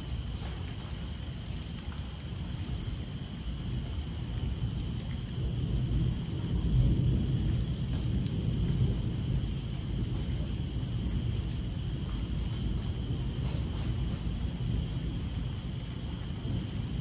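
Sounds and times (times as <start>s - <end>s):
rain falling: 0.0s - 17.0s
thunder rumbling: 2.3s - 17.0s.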